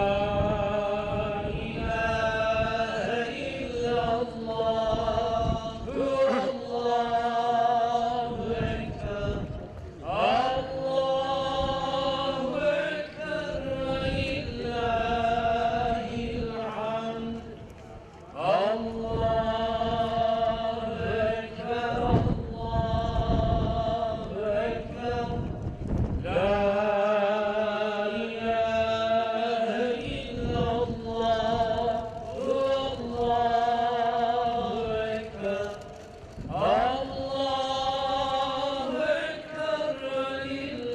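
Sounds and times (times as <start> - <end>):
man chanting: 0.0 - 25.4, 26.3 - 35.8.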